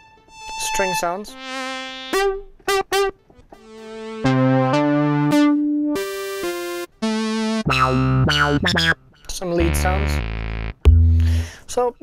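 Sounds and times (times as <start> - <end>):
synthesizer string chords: 0.0 - 11.5.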